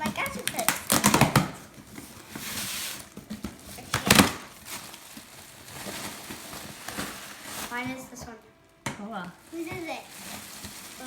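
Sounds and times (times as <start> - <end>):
packaging crinkling and tearing: 0.0 - 8.2, 9.4 - 11.0.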